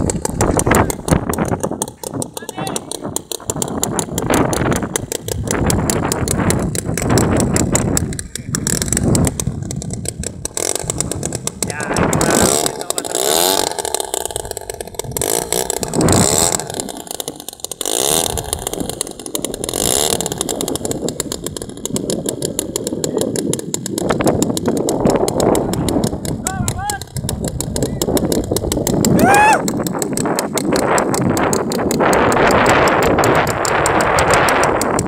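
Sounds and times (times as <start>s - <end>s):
model plane engine running: 0.0s - 35.0s.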